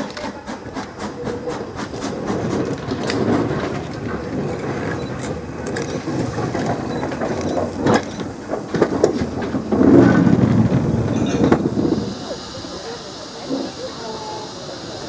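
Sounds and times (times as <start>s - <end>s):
steam locomotive running gear clanking: 0.0s - 15.0s.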